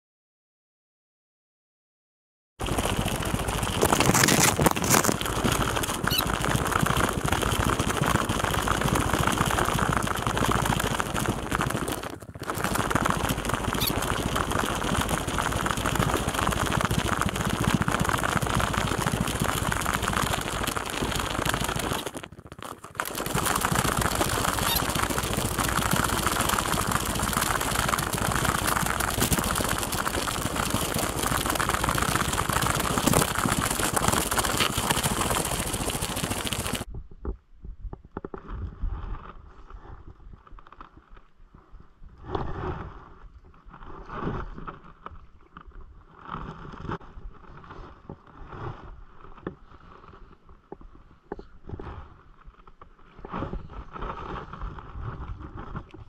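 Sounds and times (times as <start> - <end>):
wind and movement noise: 2.6 - 30.2, 34.5 - 56.0.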